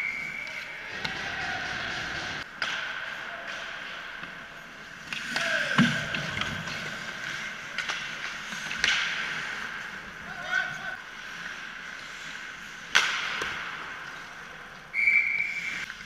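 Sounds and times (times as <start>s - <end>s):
sticks and puck clacking: 0.0s - 16.0s.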